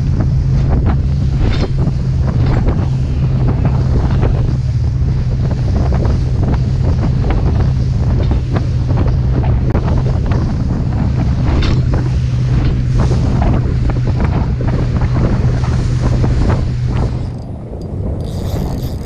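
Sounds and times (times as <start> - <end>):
boat engine hum: 0.0 - 19.0
water splashing against hull: 0.0 - 19.0
wind buffeting microphone: 0.0 - 19.0.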